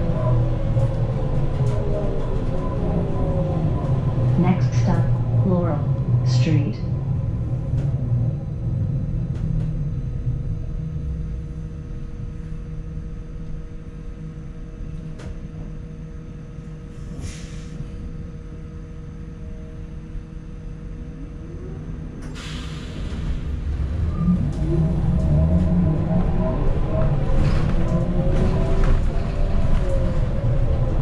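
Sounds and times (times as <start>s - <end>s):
electrical hums and whines: 0.0s - 31.0s
low rumble: 0.0s - 31.0s.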